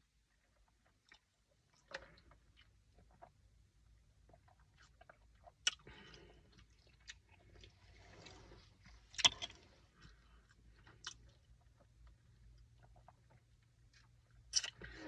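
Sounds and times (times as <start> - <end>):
chewing food close up: 0.3 - 15.0.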